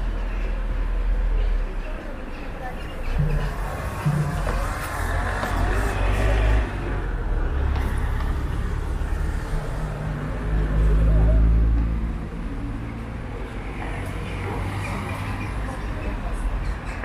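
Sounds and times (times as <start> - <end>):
minibus engine passing: 0.0 - 16.8
city street traffic: 0.0 - 17.0.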